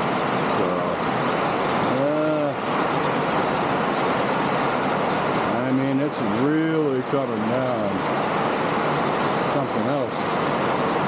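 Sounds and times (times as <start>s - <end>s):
heavy rain on a roof: 0.0s - 11.0s.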